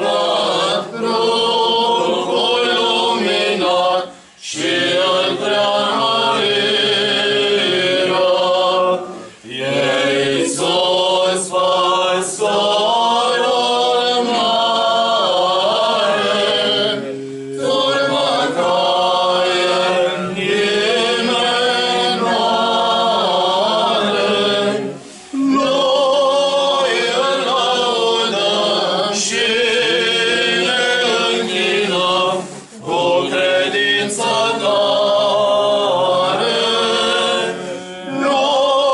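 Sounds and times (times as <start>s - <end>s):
choir singing unaccompanied chant: 0.0s - 38.9s.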